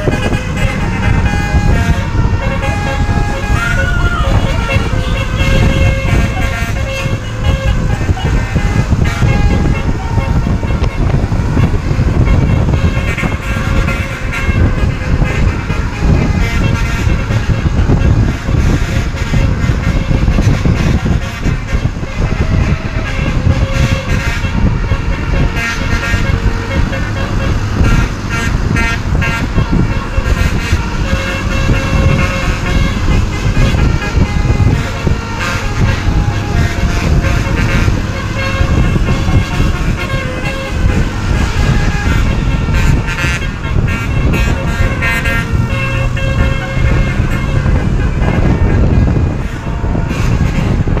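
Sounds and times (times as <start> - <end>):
bus horn playing a tune: 0.0 - 51.0
low engine rumble: 0.0 - 51.0
traffic: 0.0 - 51.0.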